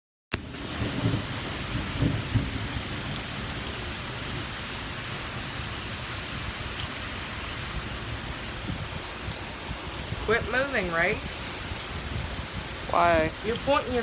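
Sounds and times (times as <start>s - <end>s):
heavy rain hissing: 0.4s - 14.0s.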